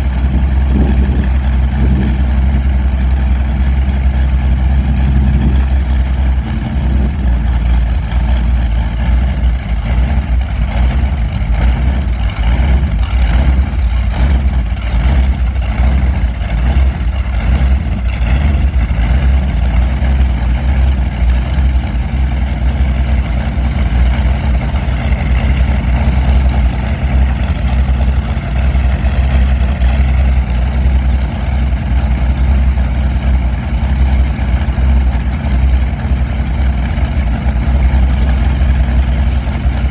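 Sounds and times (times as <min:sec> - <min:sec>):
aircraft engine running loudly: 0:00.0 - 0:39.9.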